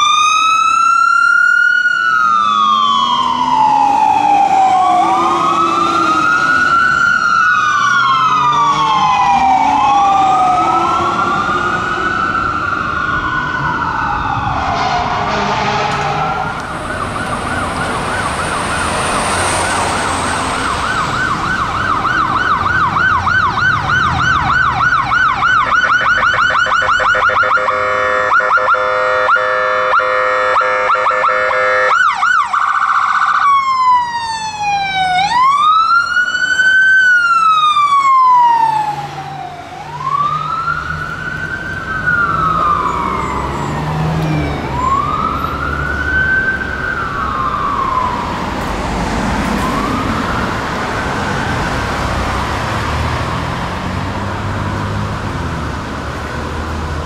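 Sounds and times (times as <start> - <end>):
ambulance siren: 0.0 - 57.0.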